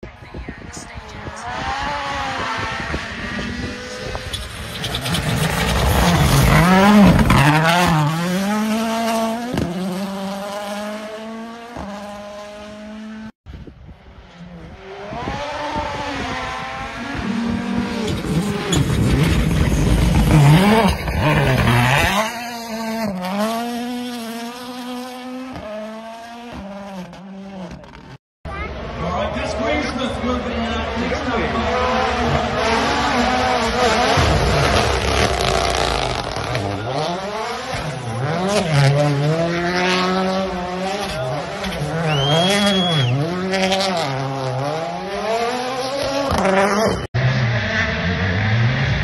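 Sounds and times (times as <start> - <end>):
rally car engines revving: 0.1 - 13.3, 13.9 - 49.0.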